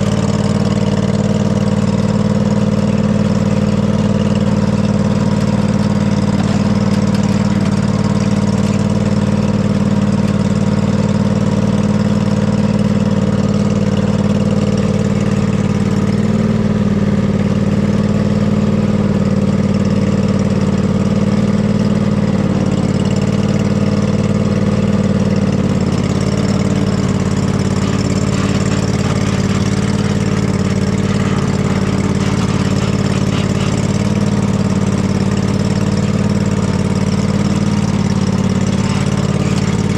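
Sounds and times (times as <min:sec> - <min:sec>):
riding mower engine running: 0:00.0 - 0:39.9.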